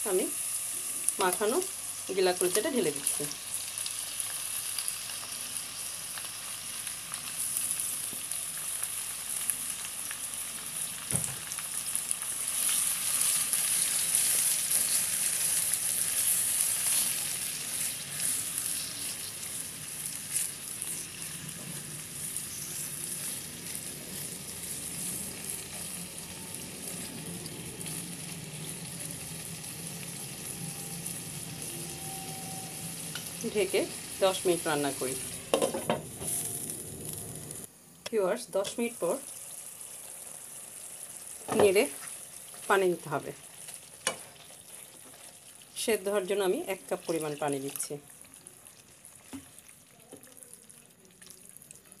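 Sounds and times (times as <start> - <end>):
meat sizzling in hot oil: 0.0 - 52.0.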